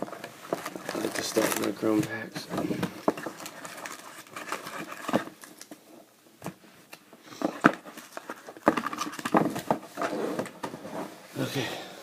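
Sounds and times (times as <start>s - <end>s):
card packs crinkling and rustling: 0.0s - 10.8s.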